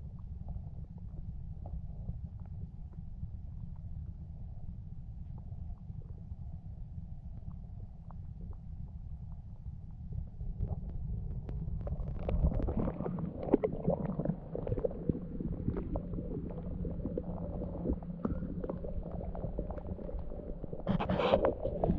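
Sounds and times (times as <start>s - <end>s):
muffled underwater rumbling and knocking: 0.0s - 21.9s
steady low hum: 0.0s - 21.9s.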